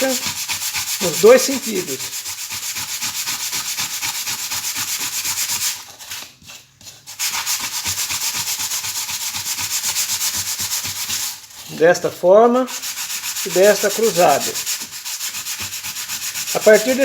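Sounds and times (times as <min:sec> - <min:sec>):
sanding sponge scrubbing copper board: 0:00.0 - 0:17.0.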